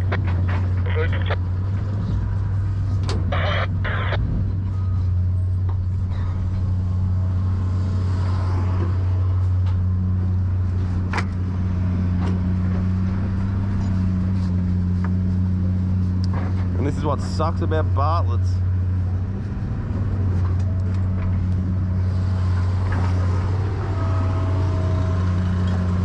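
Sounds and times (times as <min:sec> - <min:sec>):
truck engine running: 0:00.0 - 0:08.0, 0:09.0 - 0:26.0.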